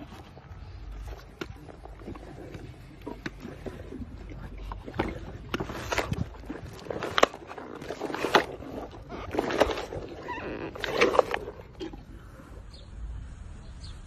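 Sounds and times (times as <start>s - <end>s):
apples thudding into mouth: 0.0s - 12.3s.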